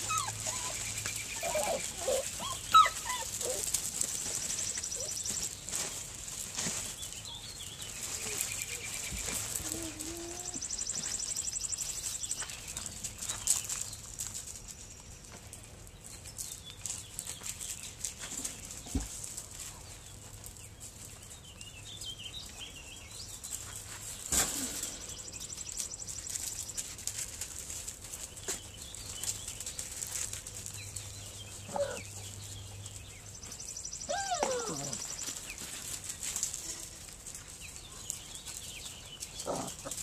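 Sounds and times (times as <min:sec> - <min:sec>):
puppies playing on gravel: 0:00.0 - 0:40.0.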